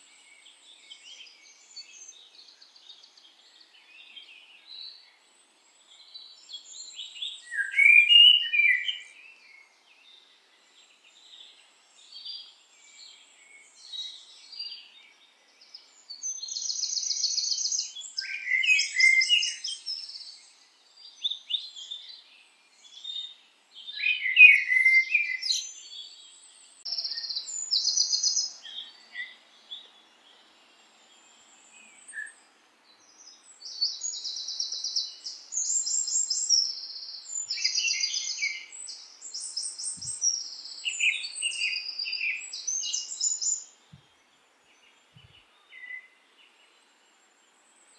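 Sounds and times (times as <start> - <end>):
birds calling and chirping: 6.0 - 9.7, 10.8 - 46.9.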